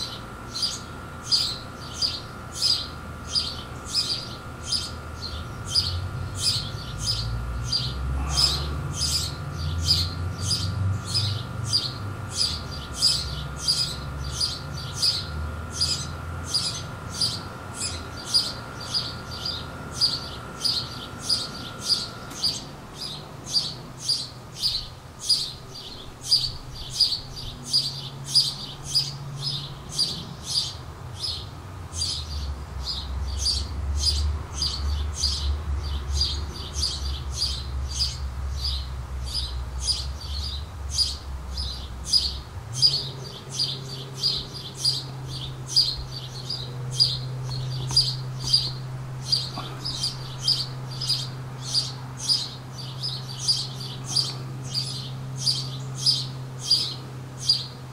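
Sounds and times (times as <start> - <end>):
sparrow chirping: 0.0 - 57.9.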